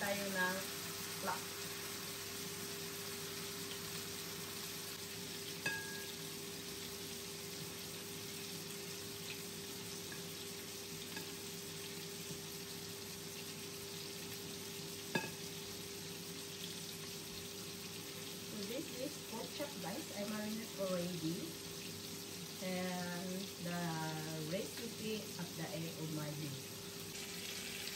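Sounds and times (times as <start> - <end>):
faint steady hum: 0.0 - 27.9
pork chops sizzling in a pan: 0.0 - 27.9.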